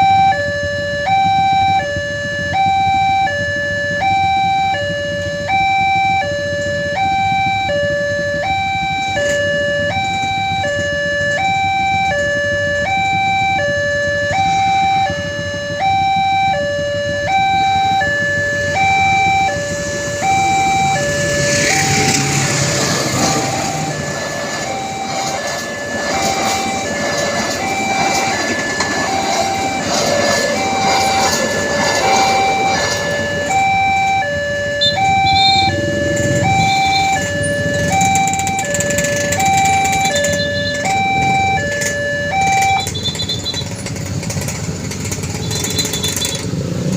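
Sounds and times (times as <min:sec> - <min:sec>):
level crossing two-tone alarm: 0:00.0 - 0:43.8
train rumble and wheel clatter: 0:00.0 - 0:46.9.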